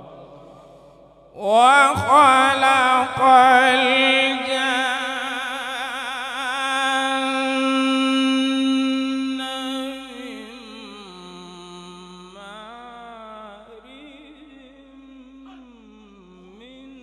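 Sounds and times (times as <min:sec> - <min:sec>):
man reciting melodically: 0:00.0 - 0:00.8, 0:01.4 - 0:17.0.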